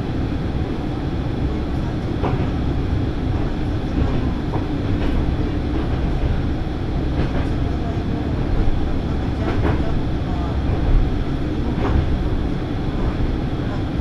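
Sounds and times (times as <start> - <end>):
train rumble from inside: 0.0 - 14.0.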